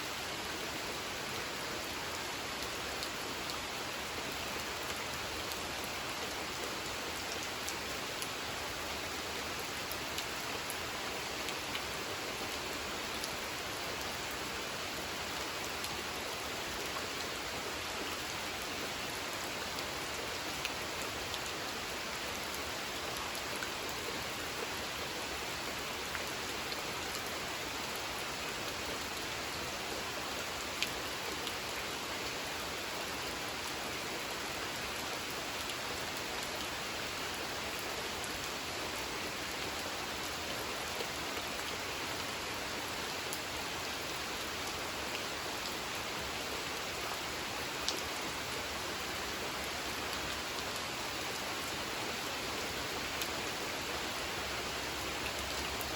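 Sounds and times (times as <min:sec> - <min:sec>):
rain falling on a pond: 0:00.0 - 0:55.9.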